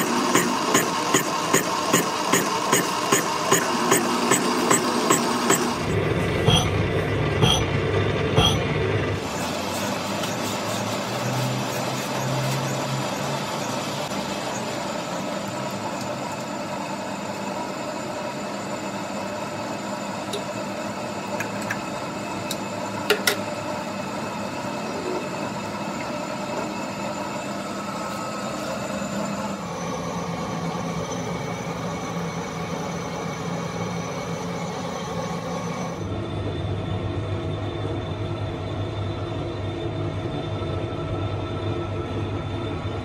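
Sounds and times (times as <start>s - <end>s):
machinery humming: 0.0s - 43.0s.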